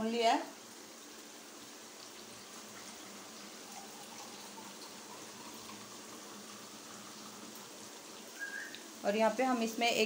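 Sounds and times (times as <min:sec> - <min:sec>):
curry sizzling in oil: 0:00.0 - 0:10.0.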